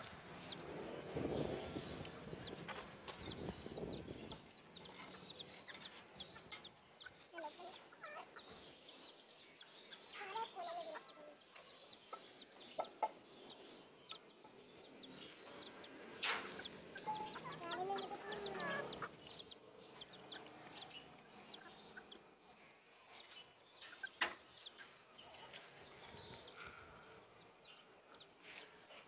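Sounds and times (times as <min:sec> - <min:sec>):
faint chickens clucking: 0:00.0 - 0:29.0.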